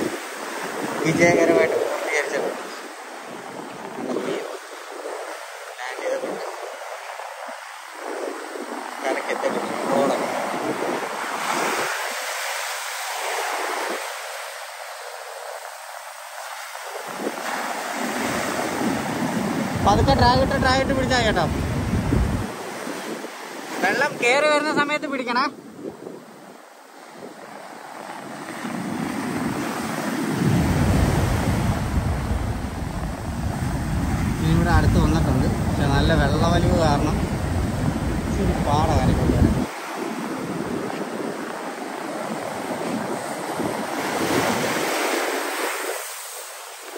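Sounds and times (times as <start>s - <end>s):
wind buffeting microphone: 0.0s - 14.2s, 15.2s - 24.9s, 25.5s - 46.9s
surf breaking on a beach: 0.0s - 46.9s.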